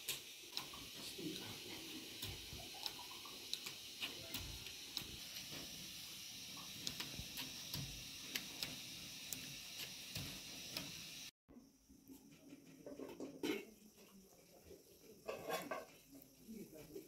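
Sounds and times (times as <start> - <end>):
steady hiss: 0.0 - 11.3, 13.9 - 17.0.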